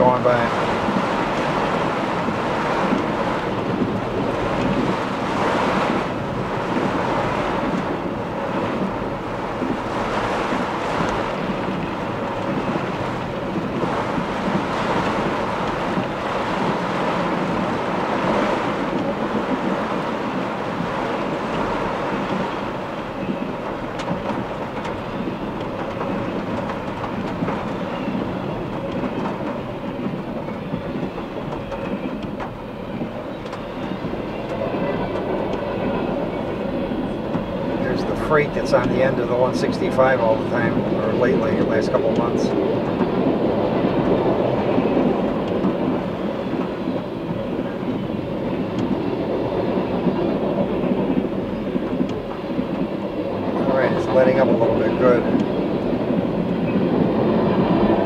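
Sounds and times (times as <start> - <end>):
heavy rain on a car: 0.0 - 58.0.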